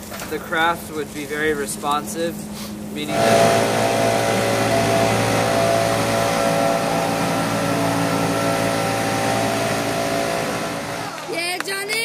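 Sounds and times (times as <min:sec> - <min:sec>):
hovercraft engines droning: 0:00.0 - 0:11.4.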